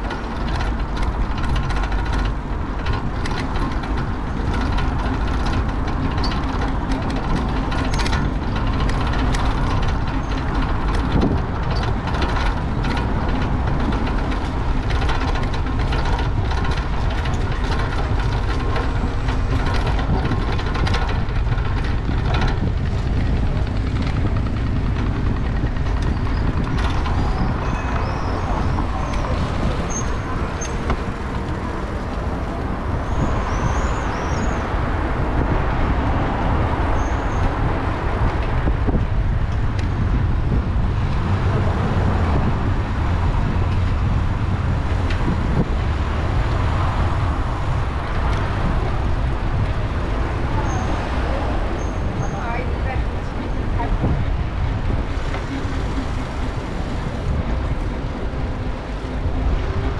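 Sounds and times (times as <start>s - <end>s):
bicycle clicks and rattles: 0.0s - 59.9s
bicycle rolling noise: 0.0s - 59.9s
wind rush on microphone: 0.0s - 59.9s.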